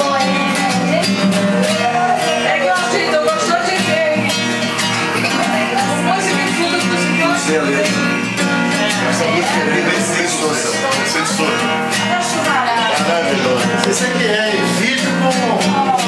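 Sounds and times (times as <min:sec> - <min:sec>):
classical guitar strummed: 0:00.0 - 0:16.0.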